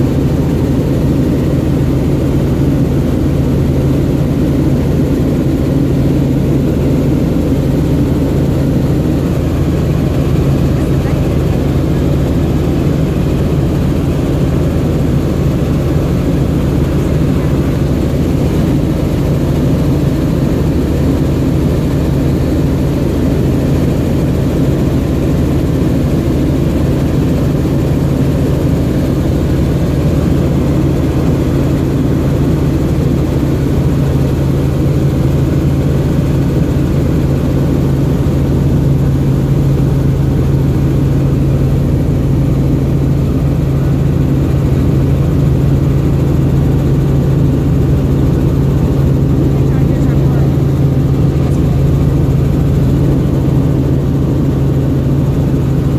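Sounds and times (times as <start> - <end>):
helicopter engine and rotor noise: 0.0 - 55.9.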